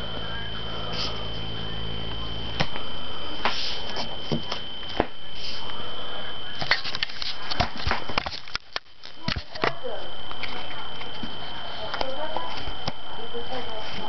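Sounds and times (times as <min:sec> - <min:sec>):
steady high whine: 0:00.0 - 0:14.0.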